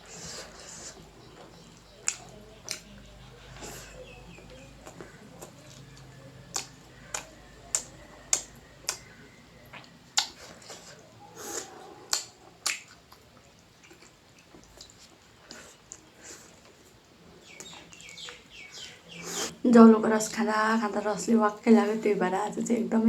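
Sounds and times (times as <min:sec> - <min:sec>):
mouth chewing with wet clicks: 0:00.0 - 0:19.6.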